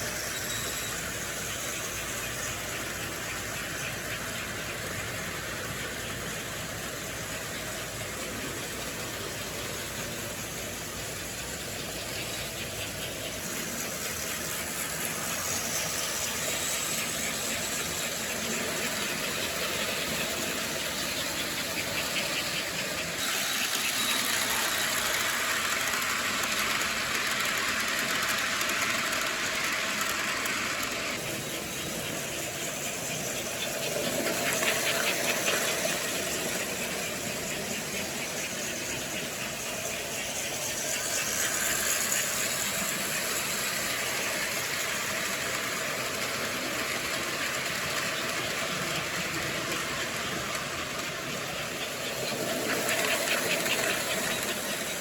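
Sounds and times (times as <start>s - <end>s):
model train motor hum and rumble: 0.0s - 55.0s.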